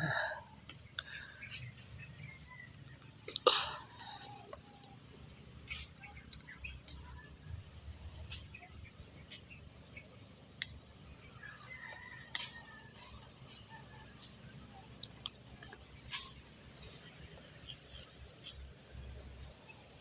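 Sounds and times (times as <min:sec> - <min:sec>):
bird chirps: 0:00.8 - 0:18.7.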